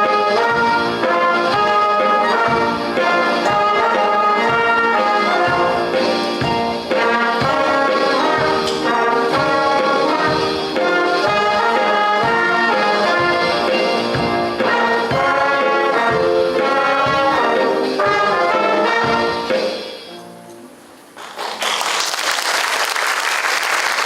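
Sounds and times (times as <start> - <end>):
jazz band playing blues: 0.0 - 20.6.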